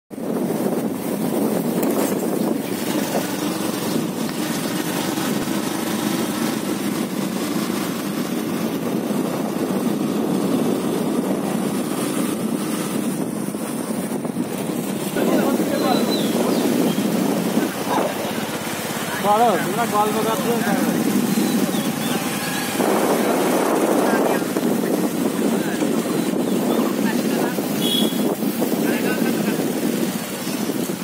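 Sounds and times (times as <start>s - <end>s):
motorcycle cruising: 0.1s - 31.0s.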